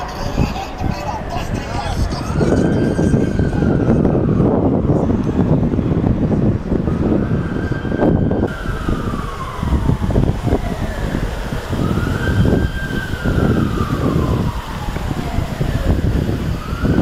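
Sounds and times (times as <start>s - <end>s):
emergency siren wailing: 0.0s - 17.0s
low street rumble: 0.0s - 17.0s.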